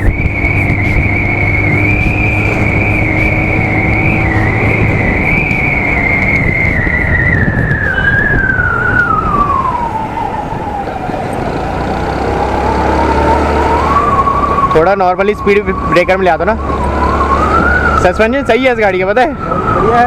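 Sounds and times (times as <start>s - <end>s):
scooter engine whine: 0.0s - 18.1s
wind and road noise: 0.0s - 20.0s.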